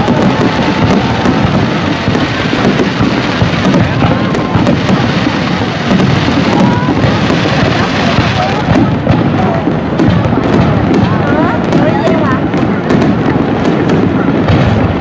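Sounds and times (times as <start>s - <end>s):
fireworks cracks and bangs: 0.0s - 15.0s
rumbling wash of fireworks: 0.0s - 15.0s.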